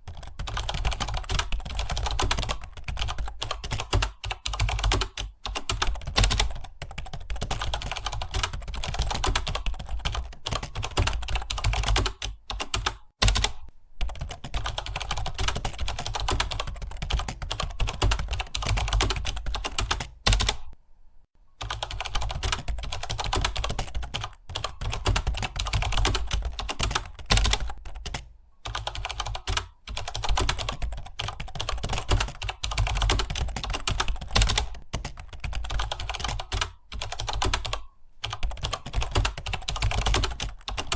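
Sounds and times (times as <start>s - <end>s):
fast typing on keyboard: 0.0s - 20.8s, 21.6s - 40.9s.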